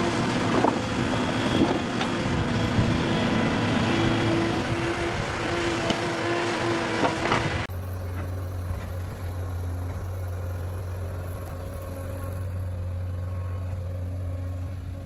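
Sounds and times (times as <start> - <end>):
heavy log loader running: 0.0 - 15.0.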